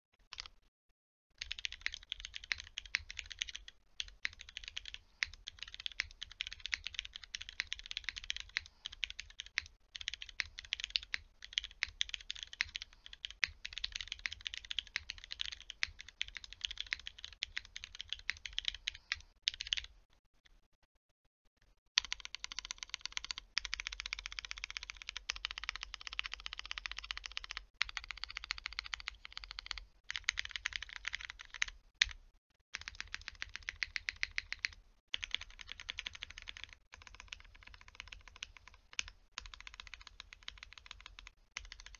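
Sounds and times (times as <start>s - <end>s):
mechanical keyboard typing: 1.4s - 19.9s, 22.0s - 32.2s, 32.8s - 41.9s.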